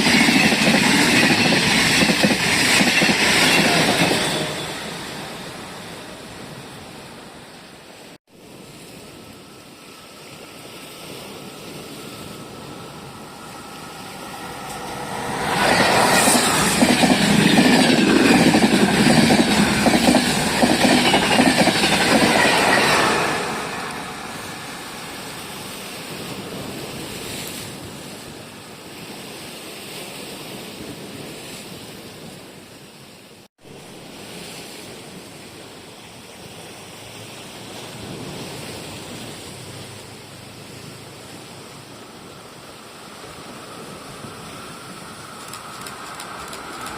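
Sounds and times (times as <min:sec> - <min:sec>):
train passing at speed: 0:00.0 - 0:46.9.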